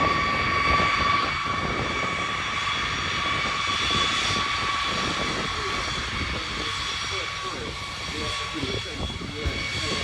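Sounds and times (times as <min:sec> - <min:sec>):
jet engines whining and rumbling: 0:00.0 - 0:10.0.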